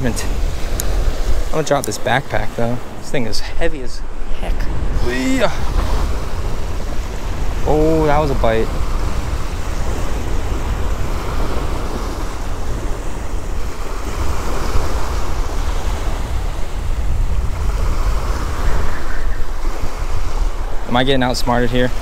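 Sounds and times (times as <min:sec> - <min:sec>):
waves breaking on sandy beach: 0:00.0 - 0:22.0
wind buffeting microphone: 0:00.0 - 0:22.0.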